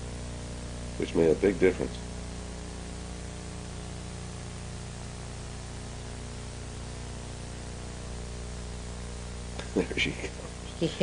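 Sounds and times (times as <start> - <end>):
low electrical hum: 0.0 - 11.0
steady hiss: 0.0 - 11.0.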